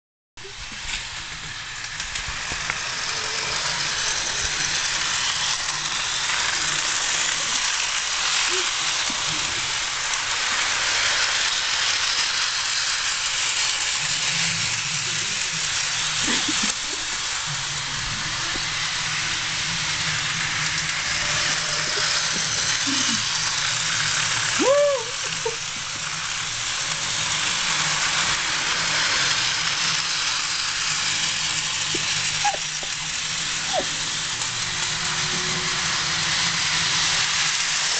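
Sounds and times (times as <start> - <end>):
model train whirring: 0.4 - 37.9.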